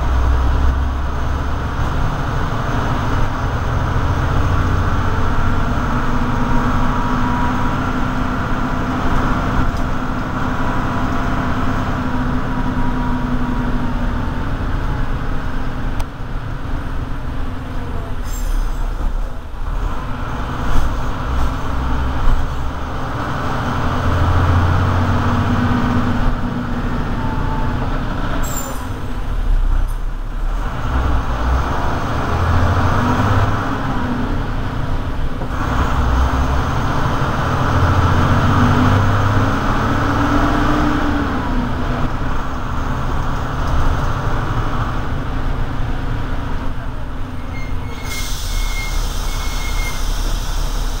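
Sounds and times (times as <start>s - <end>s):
bus engine running: 0.0s - 51.0s
road and tyre noise: 0.0s - 51.0s.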